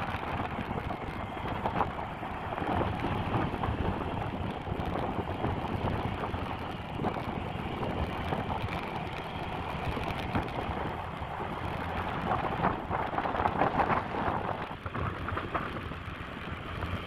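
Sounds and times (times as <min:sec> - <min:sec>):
road and vehicle rumble: 0:00.0 - 0:17.0
wind buffeting microphone: 0:00.0 - 0:17.0.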